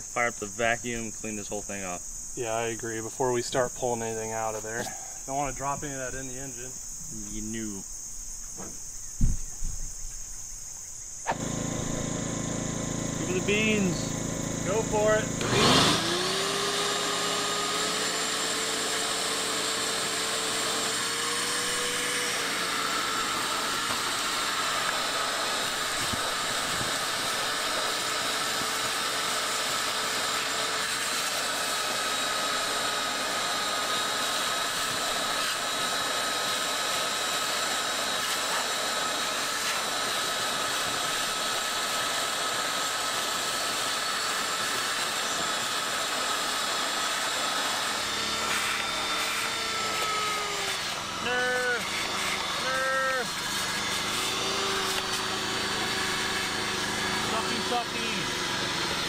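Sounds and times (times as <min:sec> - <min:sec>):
vacuum whining: 0:11.2 - 0:59.0.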